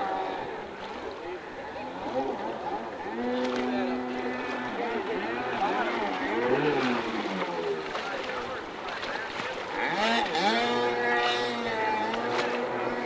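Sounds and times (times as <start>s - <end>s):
jet ski engine revving: 1.4s - 13.0s.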